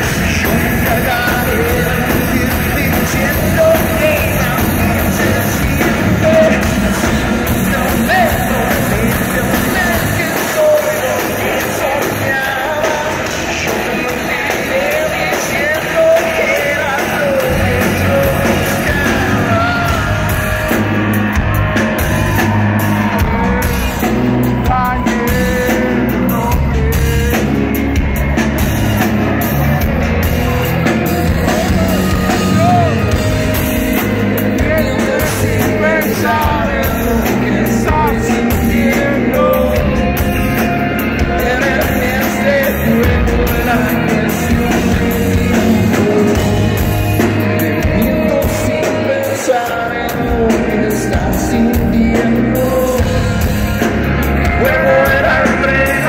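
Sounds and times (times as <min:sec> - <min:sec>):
bass guitar: 0:00.0 - 0:56.0
drums: 0:00.0 - 0:56.0
electric guitars: 0:00.0 - 0:56.0
person singing: 0:00.0 - 0:56.0.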